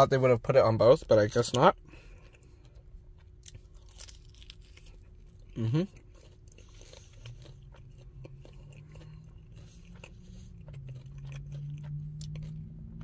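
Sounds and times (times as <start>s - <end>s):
low steady hum: 0.0s - 13.0s
person chewing food: 1.5s - 13.0s.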